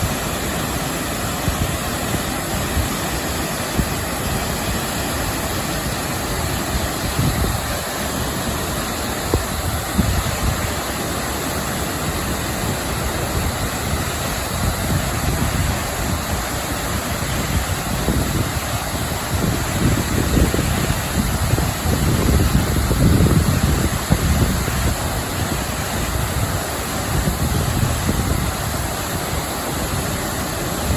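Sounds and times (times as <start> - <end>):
low rumbling gusts: 0.0 - 30.9
waterfall roaring: 0.0 - 30.9.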